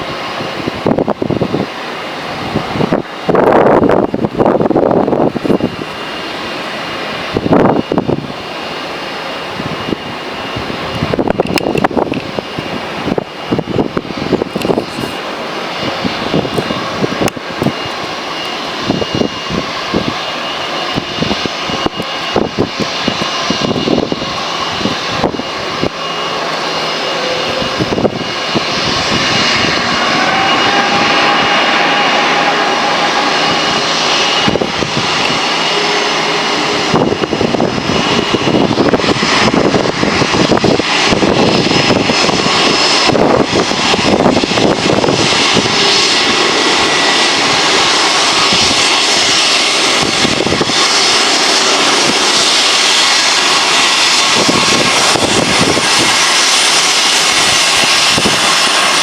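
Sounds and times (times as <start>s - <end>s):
jet engines with fan whine: 0.0s - 59.0s.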